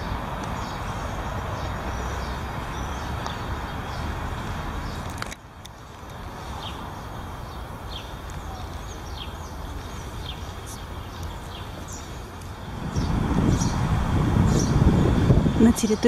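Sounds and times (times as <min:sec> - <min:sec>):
bird chirping: 0:00.0 - 0:16.0
city traffic rumble: 0:00.0 - 0:16.0.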